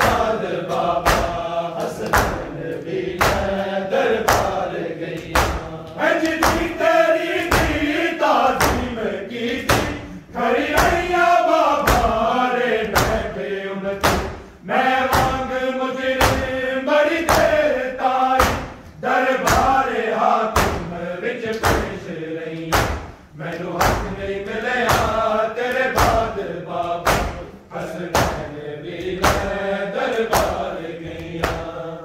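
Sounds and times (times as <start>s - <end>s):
hands beating chests: 0.0s - 13.4s, 14.0s - 19.8s, 20.5s - 22.0s, 22.6s - 29.7s, 30.3s - 31.8s
crowd chanting in unison: 0.0s - 32.0s.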